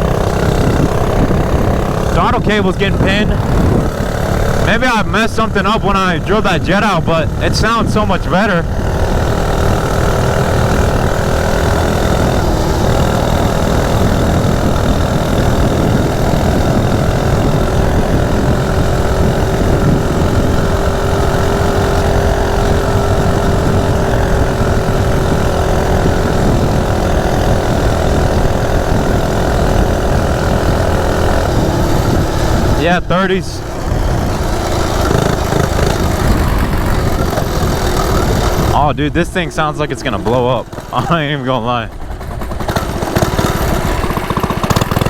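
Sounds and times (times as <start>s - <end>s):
small engine at full throttle: 0.0s - 45.0s.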